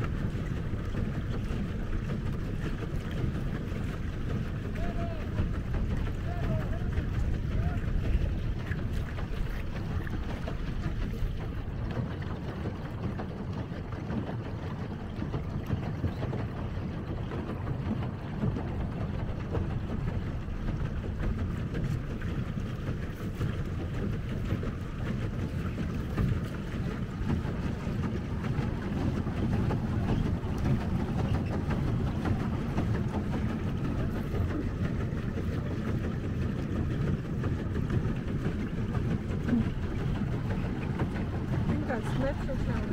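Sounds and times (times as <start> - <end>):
water churning: 0.0 - 42.9
wind buffeting microphone: 0.0 - 42.9.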